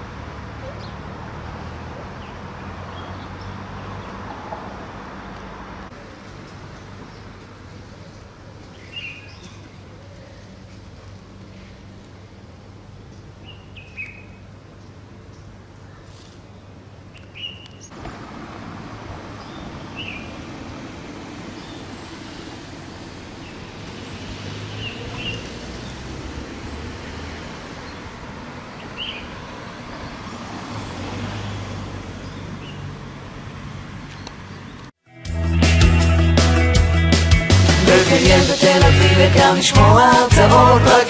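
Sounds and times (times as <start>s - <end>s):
traffic hum: 0.0s - 35.0s, 35.6s - 41.0s.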